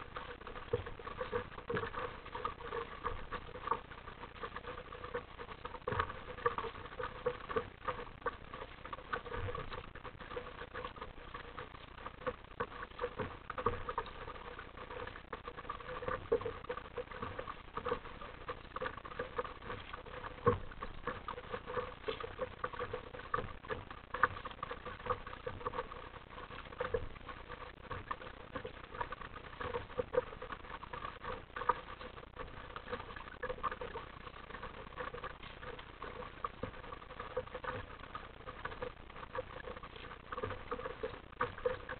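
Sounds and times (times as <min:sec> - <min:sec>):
waves lapping against plastic hull: 0:00.0 - 0:41.9.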